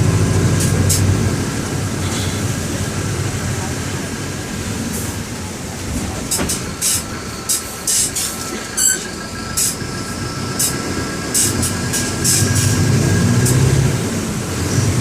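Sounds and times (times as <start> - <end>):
bus diesel engine hum: 0.0 - 15.0.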